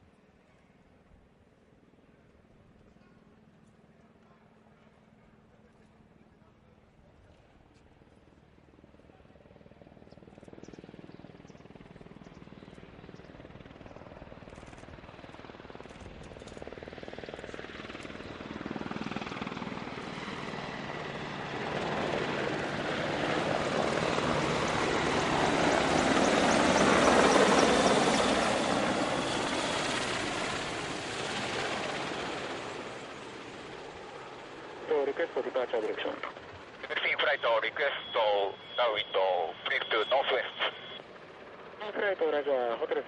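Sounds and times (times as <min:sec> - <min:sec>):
helicopters passing over: 0:01.8 - 0:43.0.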